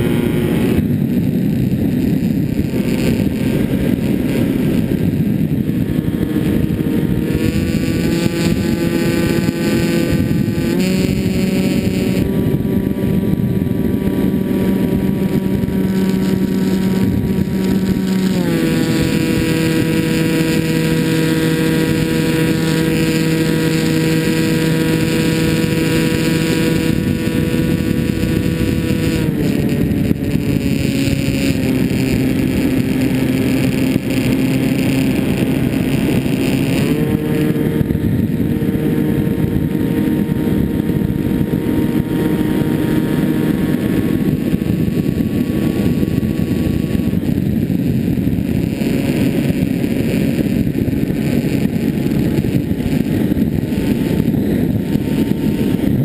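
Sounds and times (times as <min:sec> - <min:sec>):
electric motor and propeller whining: 0:00.0 - 0:56.0
wind rushing over microphone: 0:00.0 - 0:56.0.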